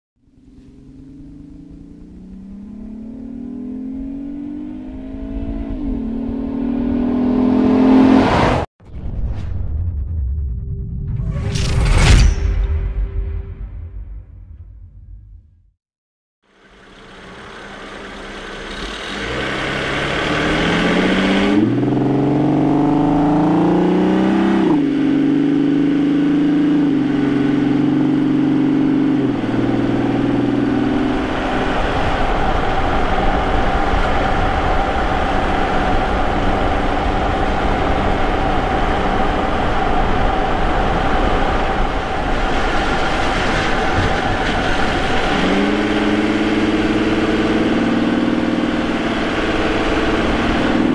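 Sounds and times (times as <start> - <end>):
road and tyre noise: 0.2 - 8.7, 16.4 - 50.9
car engine accelerating: 0.3 - 8.7, 16.5 - 50.9.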